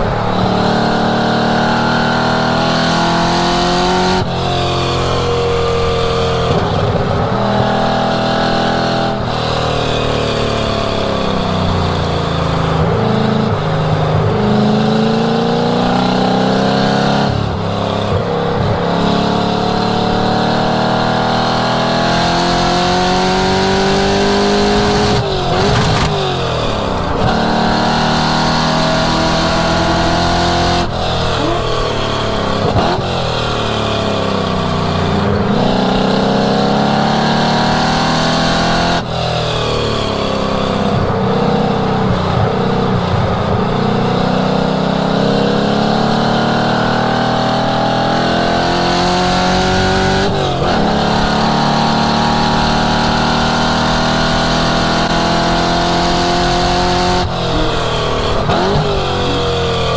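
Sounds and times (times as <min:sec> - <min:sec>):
car engine exhaust revving: 0:00.0 - 0:59.9.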